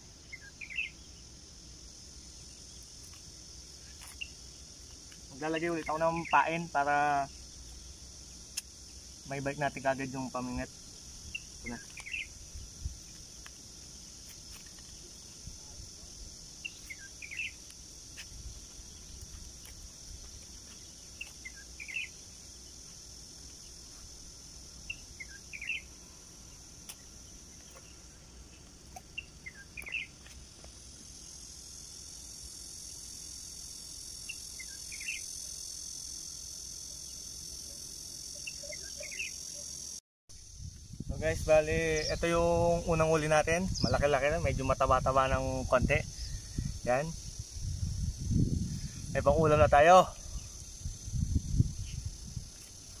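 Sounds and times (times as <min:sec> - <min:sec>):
high-pitched insect drone: 0:00.0 - 0:53.0.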